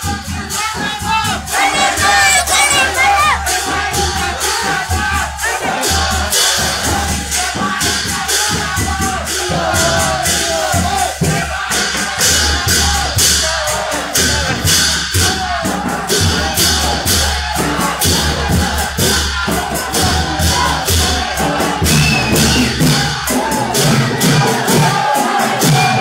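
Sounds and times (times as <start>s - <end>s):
clashing metal percussion: 0.0s - 26.0s
crowd singing and shouting: 0.0s - 26.0s
drumming: 0.0s - 26.0s.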